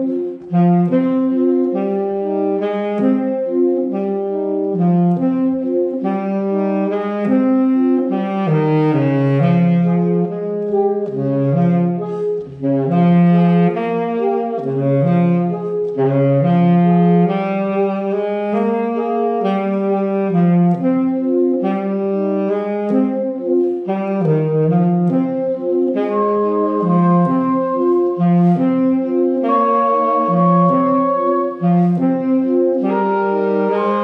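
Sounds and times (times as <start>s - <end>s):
saxophone quartet playing: 0.0s - 34.0s.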